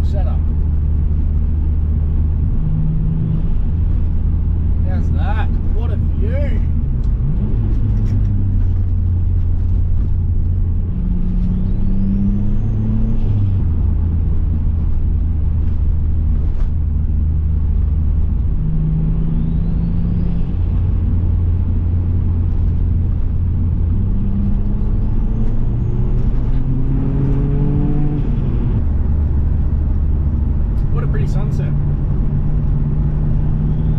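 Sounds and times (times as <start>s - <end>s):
car engine drone: 0.0s - 33.9s.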